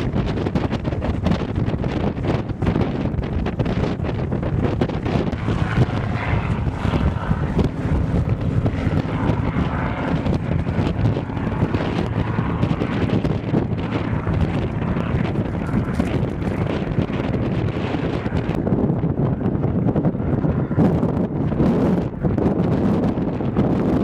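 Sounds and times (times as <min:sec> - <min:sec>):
aircraft engine droning: 0:00.0 - 0:24.0
wind rumble on microphone: 0:00.0 - 0:24.0.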